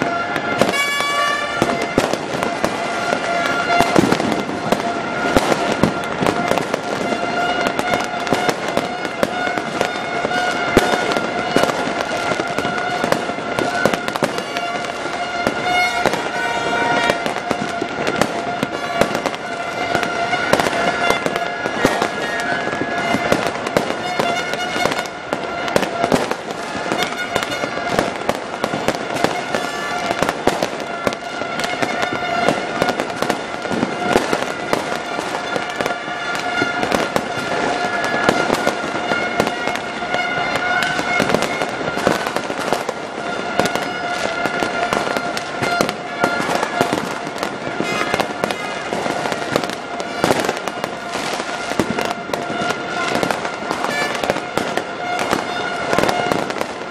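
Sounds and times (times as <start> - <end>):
fireworks crackling and popping: 0.0 - 56.9.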